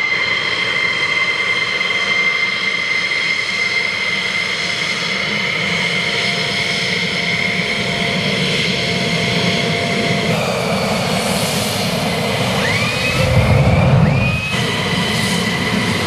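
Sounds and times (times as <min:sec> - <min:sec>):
jet engine whine over rumble: 0:00.0 - 0:16.0.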